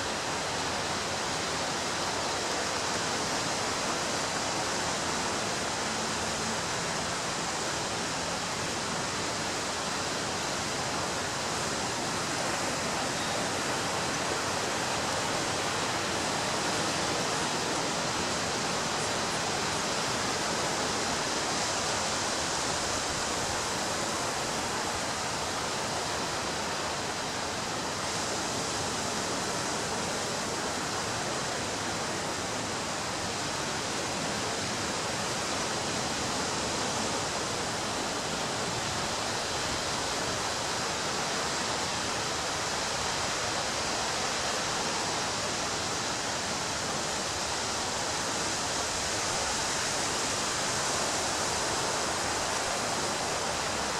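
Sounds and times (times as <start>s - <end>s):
ocean surf on beach: 0.0s - 53.9s.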